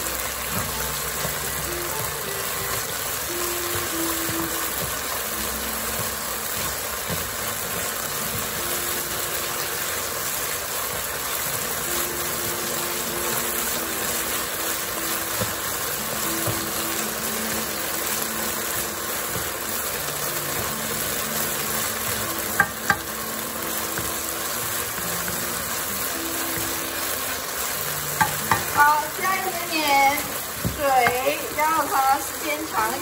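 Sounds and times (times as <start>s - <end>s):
meat sizzling in hot oil: 0.0s - 33.0s
wooden spatula stirring: 0.2s - 33.0s.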